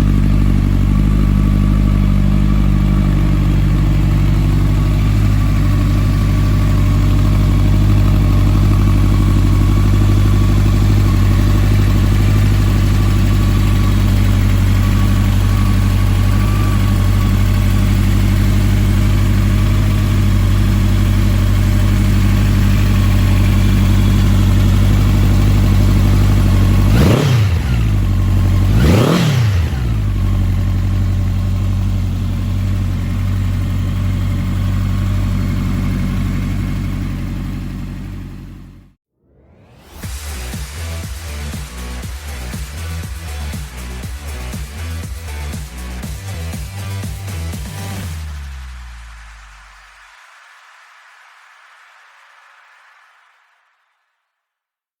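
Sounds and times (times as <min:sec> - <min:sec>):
motorcycle engine idling and revving: 0:00.0 - 0:39.0, 0:39.9 - 0:49.8.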